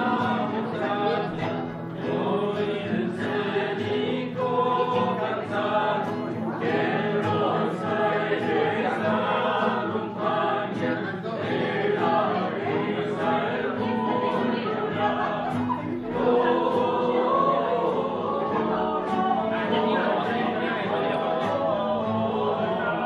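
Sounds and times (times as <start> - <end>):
acoustic guitar: 0.0 - 23.0
group singing: 0.0 - 23.0.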